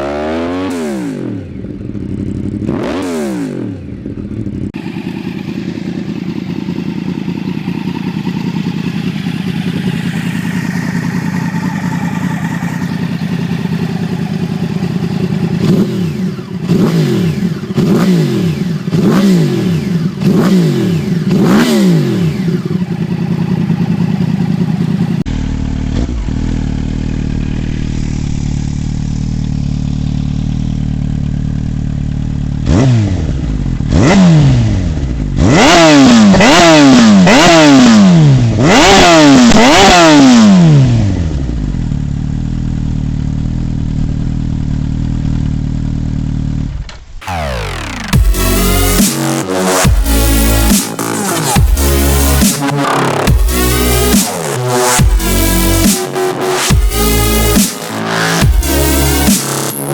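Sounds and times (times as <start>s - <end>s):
motorcycle engine revving: 0.0s - 59.9s
motorcycle engine idling: 1.2s - 35.4s, 40.9s - 59.9s.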